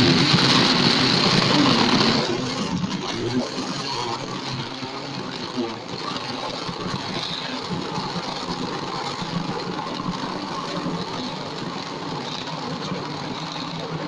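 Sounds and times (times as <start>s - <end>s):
blender motor running: 0.0s - 14.0s.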